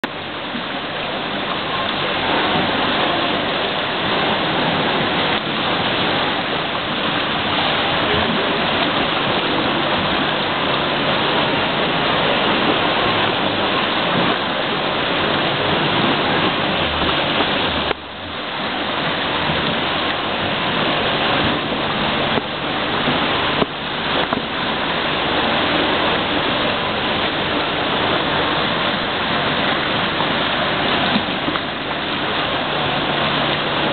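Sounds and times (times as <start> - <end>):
water rushing and splashing: 0.0 - 33.9.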